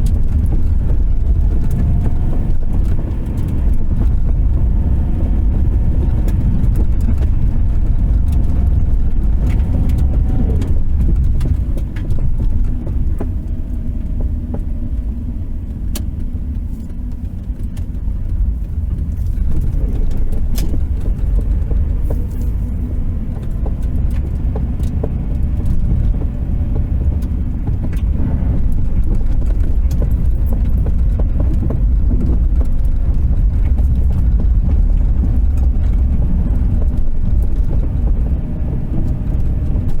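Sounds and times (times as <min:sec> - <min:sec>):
low road and engine rumble: 0:00.0 - 0:40.0
sharp pops from dashboard: 0:00.0 - 0:40.0.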